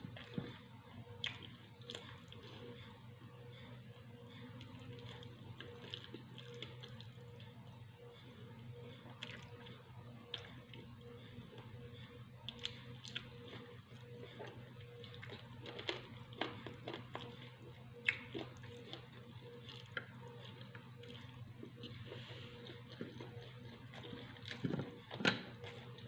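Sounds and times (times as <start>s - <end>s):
steady low hum: 0.0s - 26.0s
chewing: 0.2s - 2.9s, 4.5s - 7.6s, 8.9s - 11.8s, 12.4s - 26.0s.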